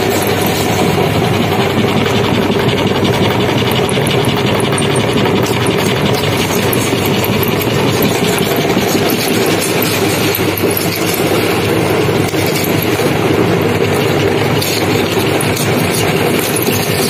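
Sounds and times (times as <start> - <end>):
meat grinder running: 0.0 - 17.0.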